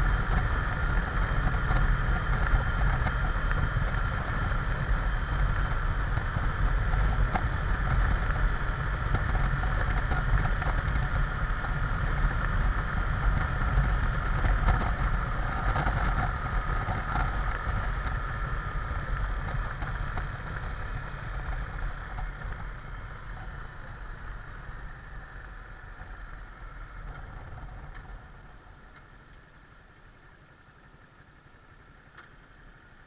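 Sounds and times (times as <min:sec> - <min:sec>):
motorcycle engine running: 0:00.0 - 0:33.0
road and wind noise: 0:00.0 - 0:33.0.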